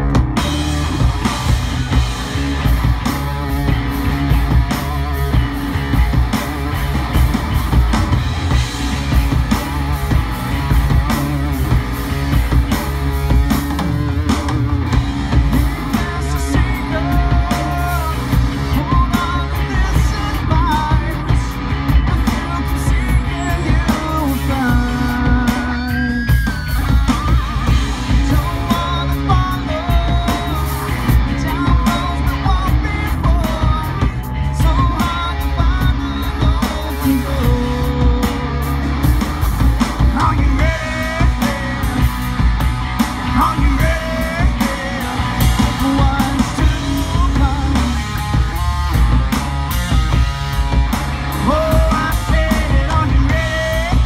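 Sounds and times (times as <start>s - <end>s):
rock band playing: 0.0s - 54.0s
man singing lead vocal: 1.9s - 7.9s, 10.5s - 48.9s, 51.2s - 54.0s.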